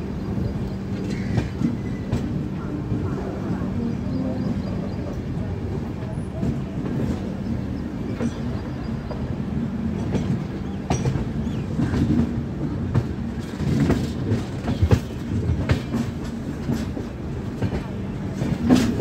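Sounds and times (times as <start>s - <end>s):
low train rumble: 0.0s - 19.0s
train wheels clattering: 0.3s - 3.2s, 6.3s - 19.0s.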